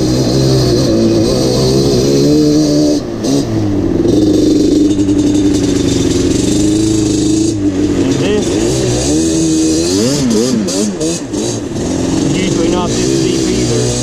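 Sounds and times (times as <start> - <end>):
two-stroke engine revving: 0.0 - 14.0.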